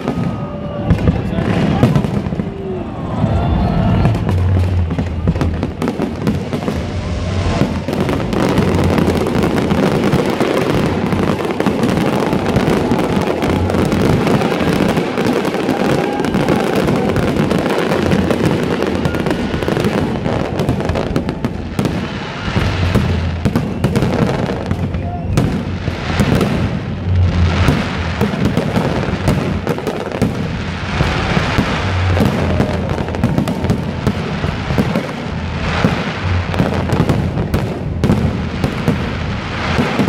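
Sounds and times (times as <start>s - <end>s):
fireworks bursting and crackling: 0.0s - 40.0s
music playing: 2.4s - 40.0s.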